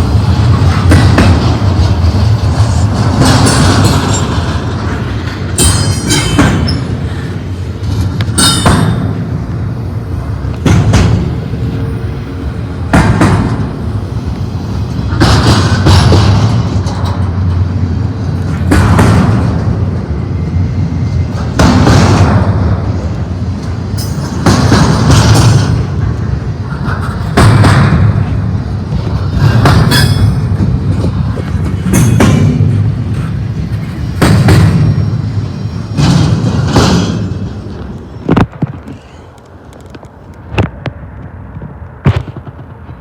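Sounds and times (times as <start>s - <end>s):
clatter of train wheels: 0.0s - 43.0s
freight train rumble: 0.0s - 43.0s.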